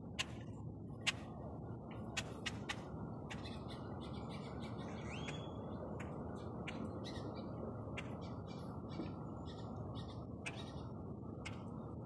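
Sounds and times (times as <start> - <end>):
low background rumble: 0.0 - 12.0
birds calling with clicks and whistle: 0.1 - 12.0.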